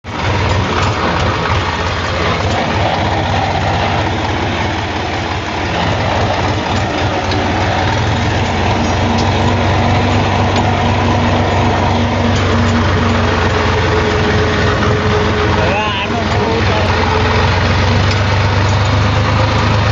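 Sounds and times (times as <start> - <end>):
tractor diesel engine running: 0.0 - 19.9.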